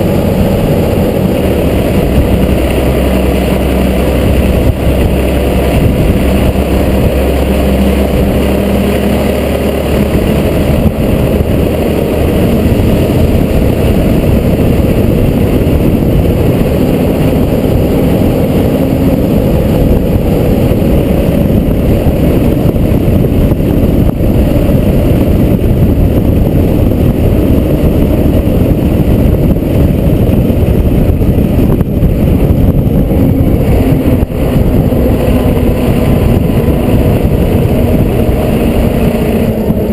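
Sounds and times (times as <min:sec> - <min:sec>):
fire truck engine rumbling: 0:00.0 - 0:39.9.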